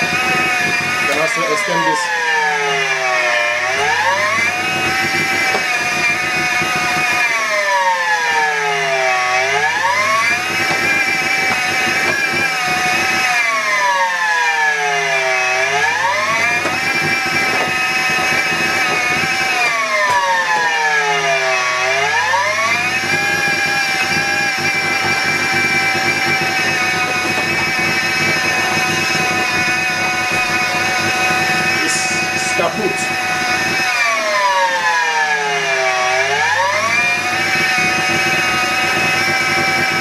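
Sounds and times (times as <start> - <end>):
vacuum cleaner motor whine surging: 0.0 - 40.0.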